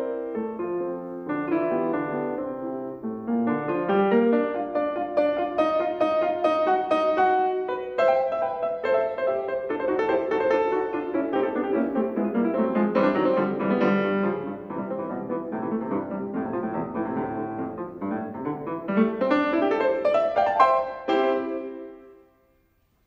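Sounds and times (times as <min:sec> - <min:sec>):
fast classical piano piece: 0:00.0 - 0:22.3.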